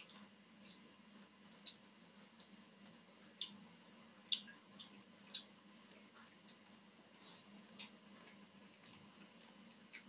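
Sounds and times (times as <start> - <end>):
wet clicks and smacks of eating: 0.0 - 0.8, 1.6 - 6.7, 7.7 - 10.0
faint steady hum: 0.0 - 10.0.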